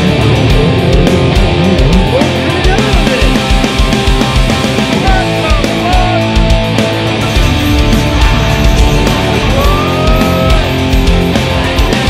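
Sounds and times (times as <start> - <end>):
hard rock music: 0.0 - 12.0.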